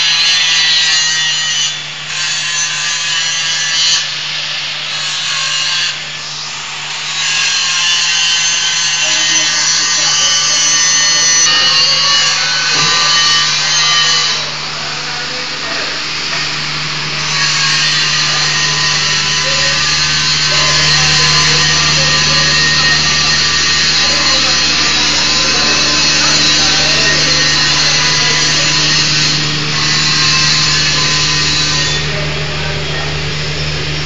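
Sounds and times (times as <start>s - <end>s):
angle grinder grinding steel: 0.0s - 34.0s.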